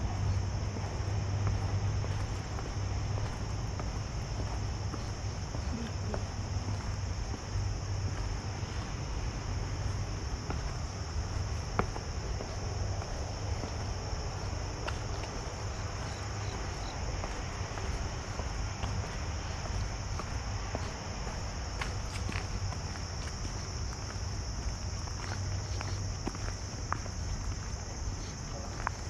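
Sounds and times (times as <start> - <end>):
footsteps on stone steps: 0.0 - 29.0
high-pitched insect chorus: 0.0 - 29.0.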